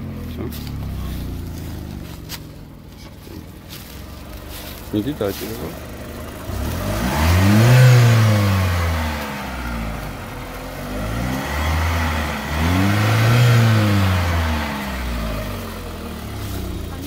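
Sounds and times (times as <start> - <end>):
petrol engine revving: 0.0 - 17.0.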